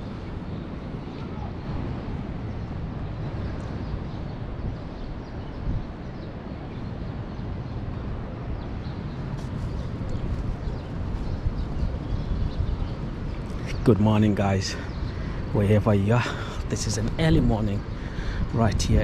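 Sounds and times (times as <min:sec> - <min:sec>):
low rumbling outdoor background noise: 0:00.0 - 0:19.0.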